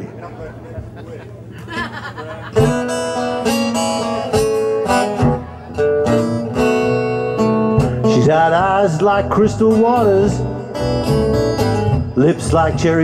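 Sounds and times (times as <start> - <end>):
acoustic guitars playing blues: 1.5 - 13.0
electric bass line: 2.6 - 13.0.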